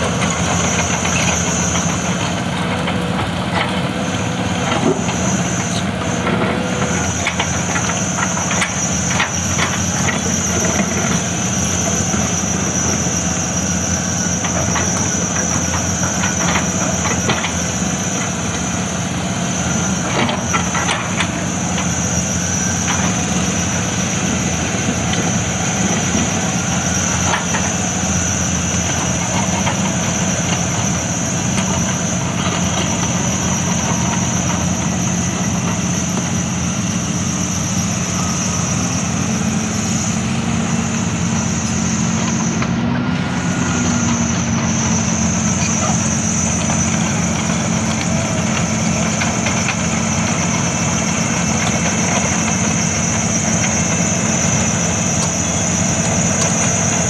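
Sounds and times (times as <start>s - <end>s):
diesel engine running: 0.0s - 57.0s
steady high whine: 0.0s - 57.0s.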